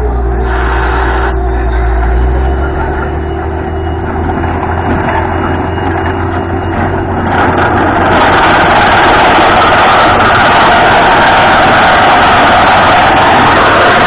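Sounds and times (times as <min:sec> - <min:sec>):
drilling rig engine: 0:00.0 - 0:14.0.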